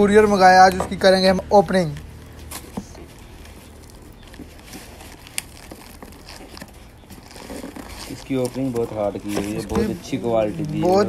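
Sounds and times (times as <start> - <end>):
hands tearing cardboard: 0.0 - 11.0.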